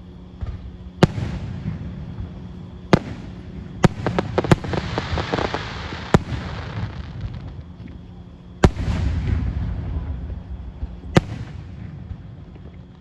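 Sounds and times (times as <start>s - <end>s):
fireworks bangs: 0.3s - 8.0s, 8.6s - 13.0s
fireworks crackling pops: 0.3s - 13.0s.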